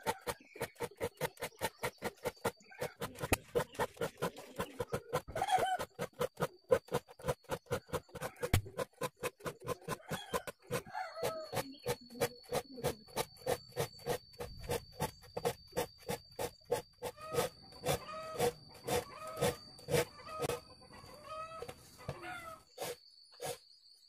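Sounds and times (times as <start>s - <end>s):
metal file rasping on saw teeth: 0.0s - 20.6s.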